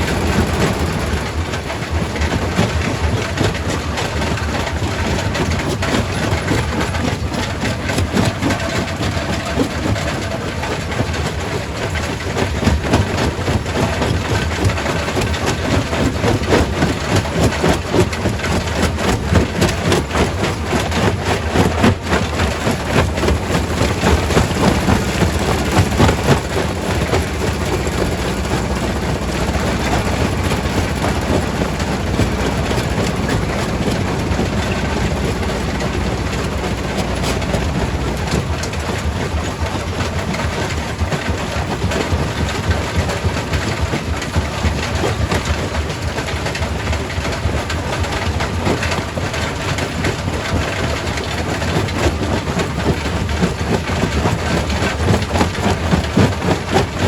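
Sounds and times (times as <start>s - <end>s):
heavy machinery rumble: 0.0s - 57.0s.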